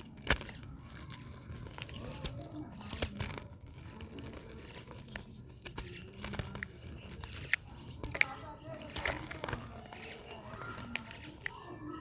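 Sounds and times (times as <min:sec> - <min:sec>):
dried dirt crumbling by hand: 0:00.0 - 0:11.9.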